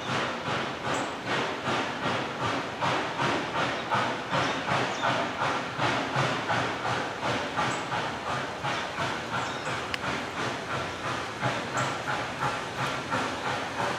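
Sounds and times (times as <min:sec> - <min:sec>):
steam locomotive exhaust chuffing: 0:00.0 - 0:13.9.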